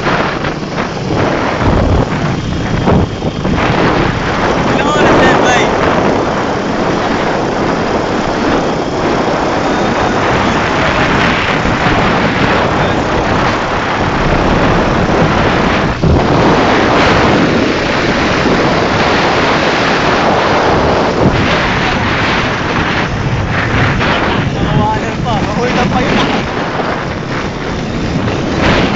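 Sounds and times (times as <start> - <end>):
tricycle running noise: 0.0 - 28.9
wind buffeting microphone: 0.0 - 28.9.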